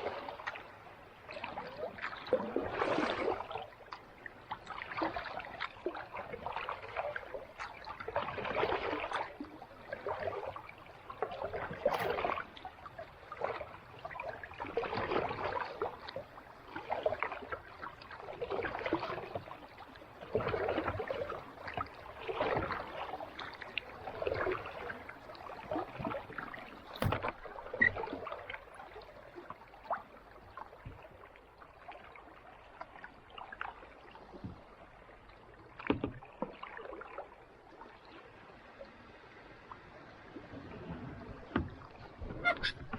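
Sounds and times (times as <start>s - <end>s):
kayak paddle splashing: 0.0s - 42.9s.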